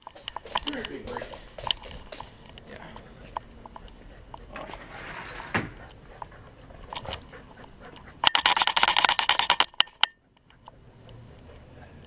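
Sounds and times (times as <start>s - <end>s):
camera rattling against running dog: 0.0s - 10.8s.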